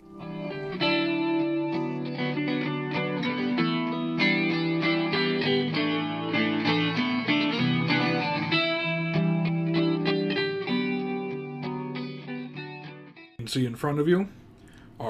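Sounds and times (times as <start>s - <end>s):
guitar piece with effects: 0.0s - 13.4s.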